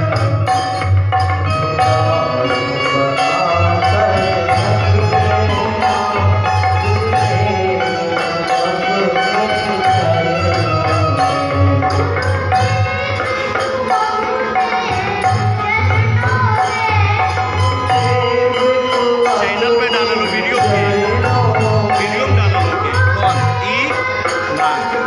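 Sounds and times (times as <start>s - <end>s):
boy singing: 0.0s - 25.0s
harmonium held notes: 0.0s - 25.0s.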